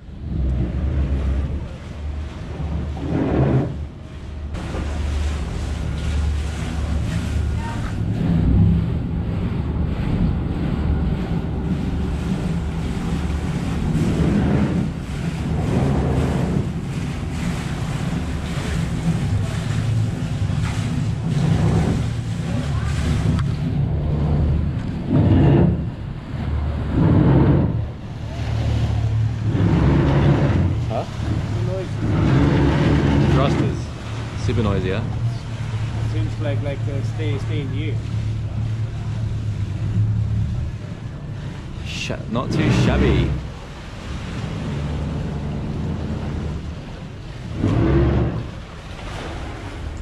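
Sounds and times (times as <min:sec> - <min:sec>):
boat engines rumbling: 0:00.0 - 0:50.0
propellers churning water: 0:00.0 - 0:50.0
wind on microphone: 0:00.0 - 0:50.0.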